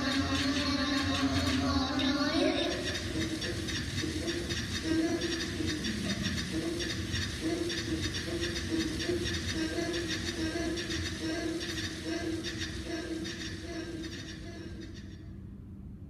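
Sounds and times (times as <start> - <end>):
low pulsing drone: 0.0 - 15.6.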